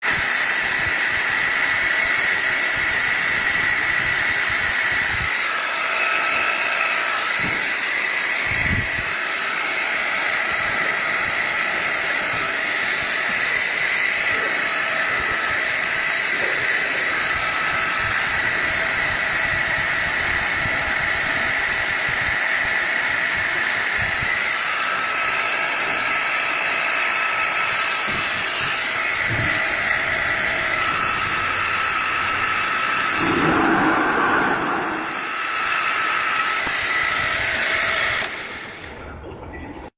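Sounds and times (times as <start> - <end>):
milling machine whine: 0.0 - 39.1.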